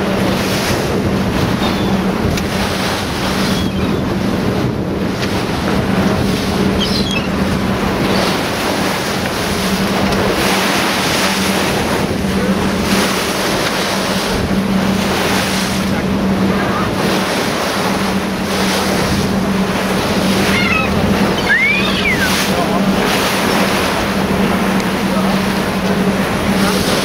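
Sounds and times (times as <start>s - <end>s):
boat engine humming: 0.0s - 27.0s
water rushing past hull: 0.0s - 27.0s
wind buffeting microphone: 0.0s - 27.0s.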